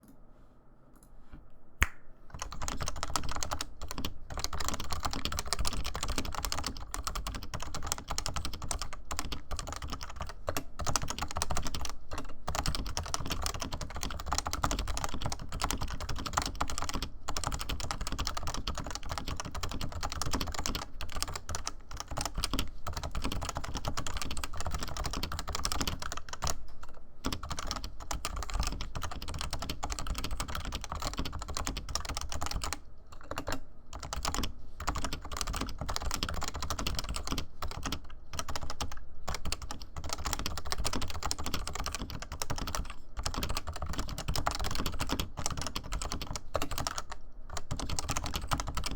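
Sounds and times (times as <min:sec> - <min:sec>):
fast typing on keyboard: 0:02.4 - 0:26.6, 0:27.2 - 0:48.9.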